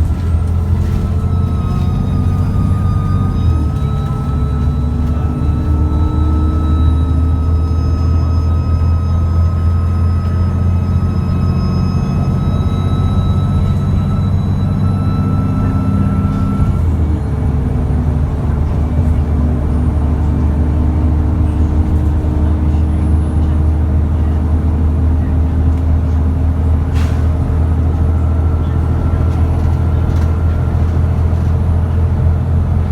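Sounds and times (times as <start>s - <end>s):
bus diesel engine running: 0.0s - 32.9s
high turbo whine: 0.0s - 32.9s.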